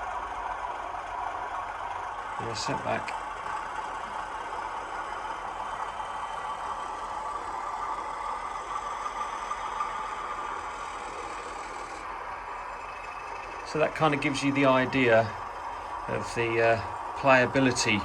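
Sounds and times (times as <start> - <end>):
thin diesel engine from small speaker: 0.0 - 18.0.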